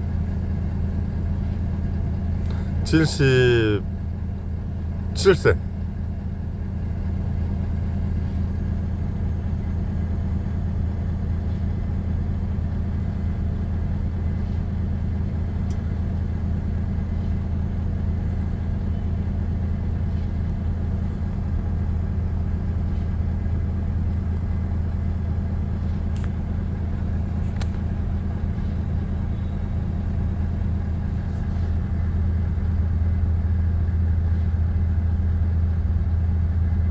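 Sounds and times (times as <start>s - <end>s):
large engine idling: 0.0s - 36.9s.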